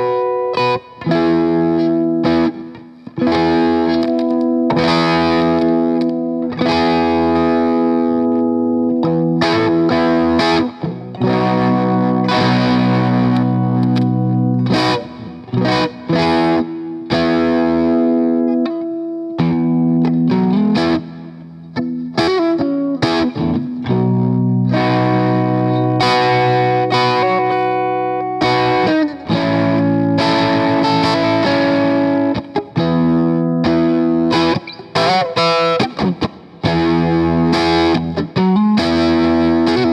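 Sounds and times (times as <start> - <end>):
overdriven electric guitar chords: 0.0 - 39.9.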